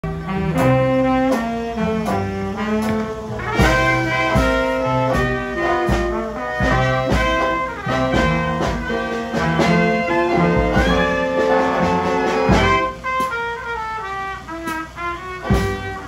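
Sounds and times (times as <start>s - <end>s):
trad jazz band playing: 0.0s - 16.0s.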